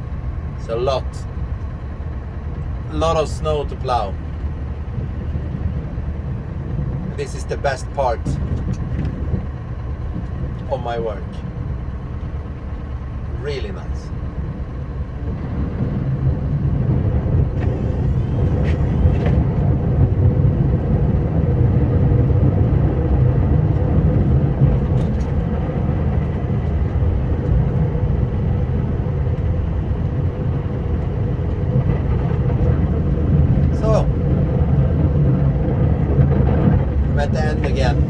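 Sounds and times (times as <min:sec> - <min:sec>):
diesel truck engine droning: 0:00.0 - 0:38.0.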